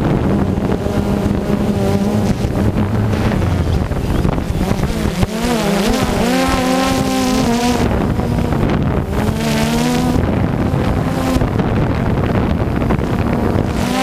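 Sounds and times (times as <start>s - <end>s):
drone propellers whining: 0.0s - 14.0s
steady rush of noise: 0.0s - 14.0s.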